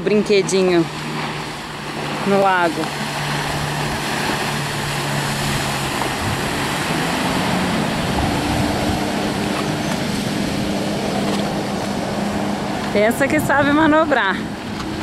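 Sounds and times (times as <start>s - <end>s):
jet ski engine: 0.0s - 15.0s
wind and water rushing: 0.0s - 15.0s.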